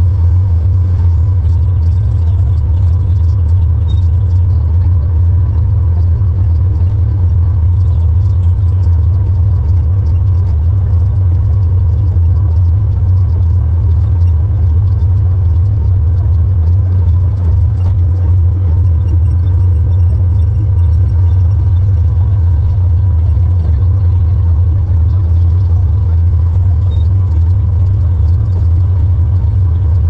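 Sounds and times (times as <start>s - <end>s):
faint steady whine: 0.0s - 30.0s
tractor engine droning: 0.0s - 30.0s.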